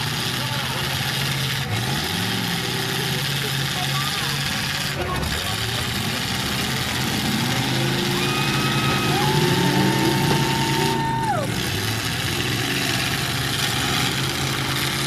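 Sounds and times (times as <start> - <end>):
truck engines running under load: 0.0 - 15.0.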